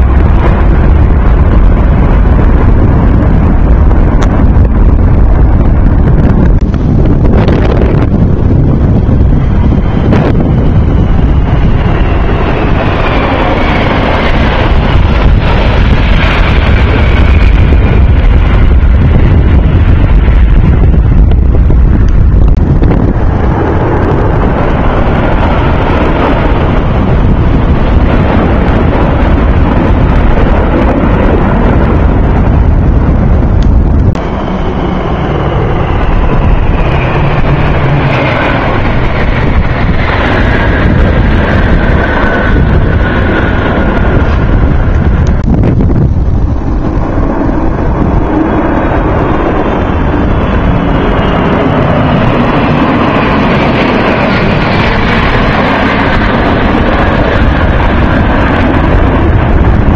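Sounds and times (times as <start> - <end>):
high engine whines: 0.0 - 59.9
jet engines rumbling overhead: 0.0 - 59.9
wind buffeting microphone: 0.0 - 59.9.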